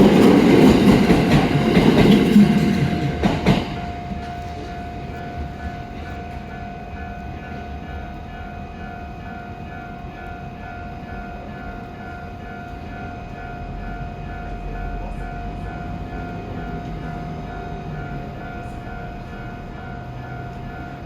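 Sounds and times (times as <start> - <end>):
level-crossing warning alarm ringing: 0.0 - 21.0
low rumble of passing train: 0.0 - 21.0.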